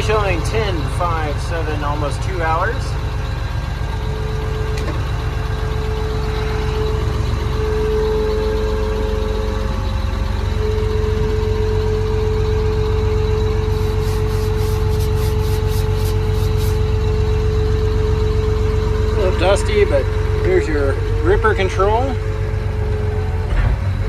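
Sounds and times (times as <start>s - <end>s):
steady whine: 0.0s - 22.7s
diesel engine idling: 0.0s - 24.0s.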